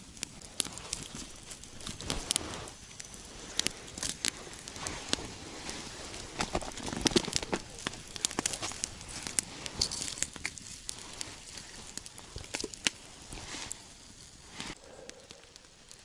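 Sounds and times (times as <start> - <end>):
campfire crackling and popping: 0.0 - 16.0
fire hissing: 0.0 - 16.0.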